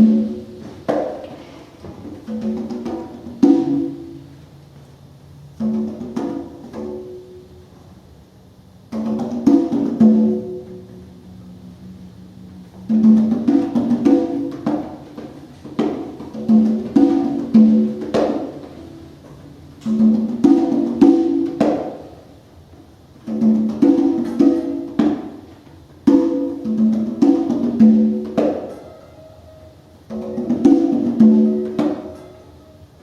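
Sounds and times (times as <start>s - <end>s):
conga drums: 0.0s - 4.4s, 5.4s - 7.7s, 8.8s - 11.2s, 12.5s - 33.0s.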